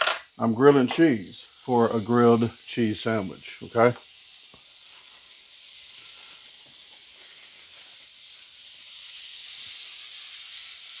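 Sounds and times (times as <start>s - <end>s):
cheese sizzling in grill pan: 0.0s - 11.0s.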